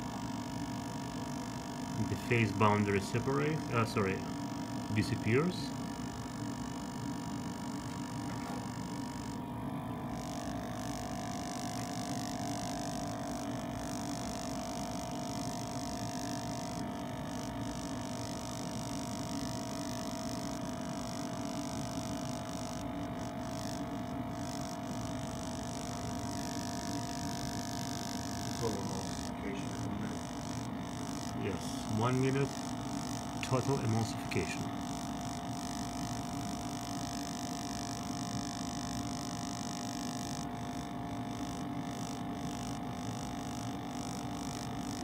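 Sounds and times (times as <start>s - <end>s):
electric stirrer motor humming: 0.0s - 45.0s.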